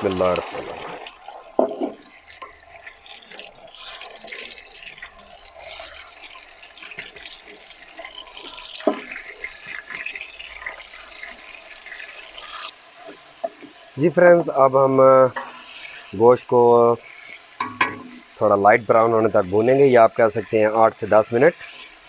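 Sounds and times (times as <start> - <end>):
hot oil sizzling and crackling: 0.0 - 22.0.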